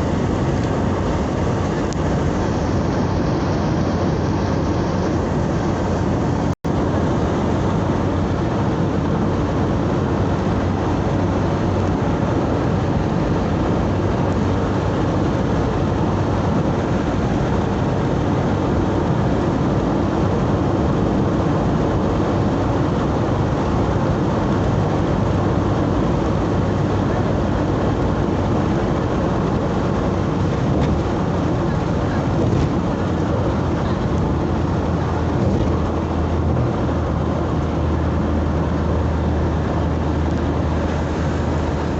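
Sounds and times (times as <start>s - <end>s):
vehicle road and engine noise: 0.0s - 41.9s.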